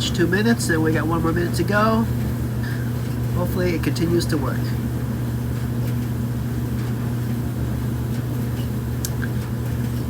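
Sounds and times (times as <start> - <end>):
dryer motor and drum hum: 0.0 - 10.0.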